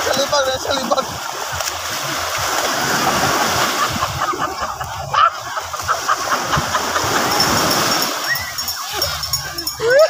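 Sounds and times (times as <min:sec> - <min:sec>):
people splashing in surf: 0:00.0 - 0:10.0
waves breaking on shore: 0:00.0 - 0:10.0.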